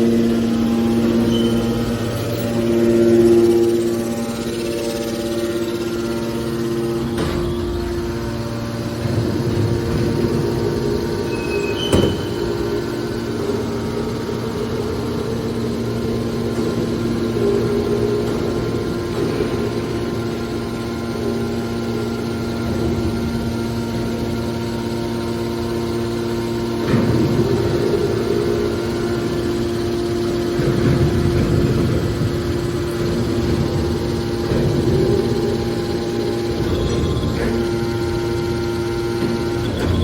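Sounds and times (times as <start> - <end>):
hydraulic power unit humming: 0.0 - 40.0.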